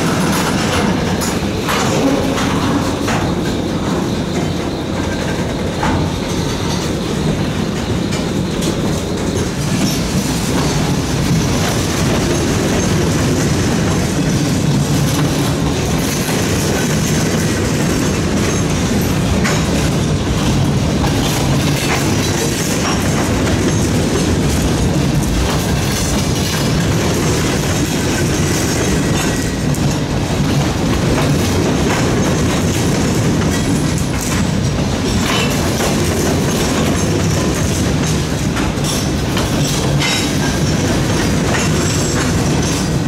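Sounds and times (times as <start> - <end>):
steel wheels rumbling on rail: 0.0 - 43.0
wheels clacking over track joints: 0.0 - 43.0.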